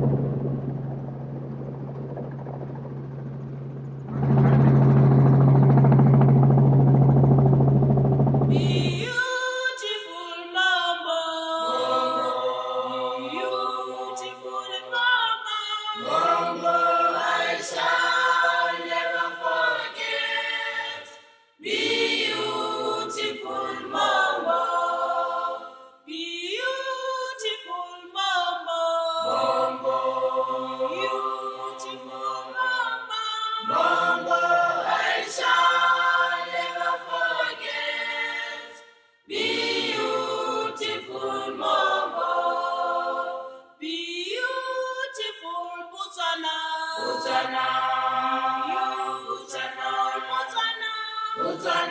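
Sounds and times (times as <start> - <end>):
choir singing a cappella: 8.5 - 51.9.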